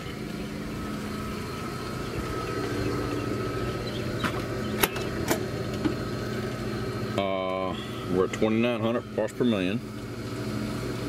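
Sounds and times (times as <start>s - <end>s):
pump motor humming: 0.0s - 11.0s.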